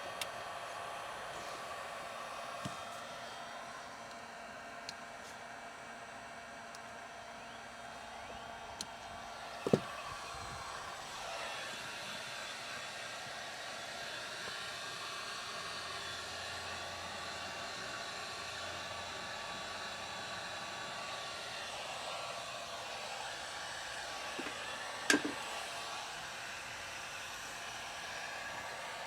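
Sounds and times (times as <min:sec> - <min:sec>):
small blower whirring: 0:00.0 - 0:29.0.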